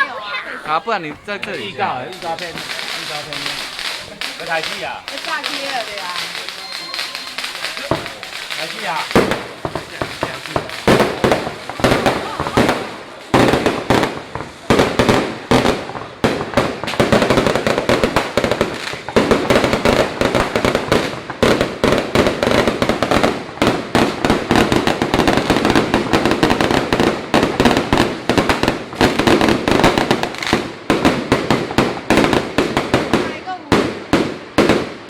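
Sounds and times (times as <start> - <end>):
fireworks bangs and crackles: 0.7 - 35.0.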